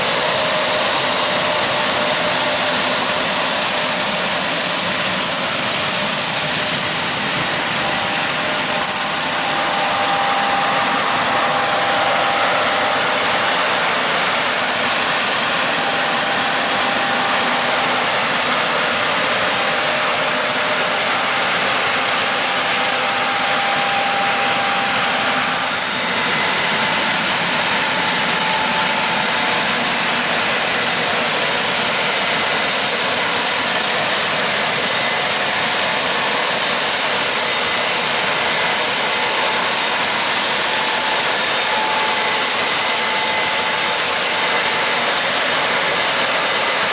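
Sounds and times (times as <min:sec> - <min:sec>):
combine harvester running: 0:00.0 - 0:46.9
faint whines: 0:00.0 - 0:46.9.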